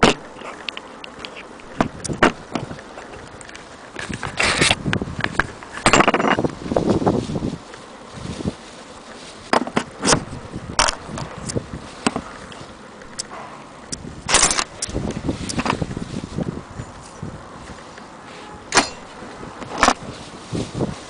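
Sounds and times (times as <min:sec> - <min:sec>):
scraping rustles: 0:00.0 - 0:21.0.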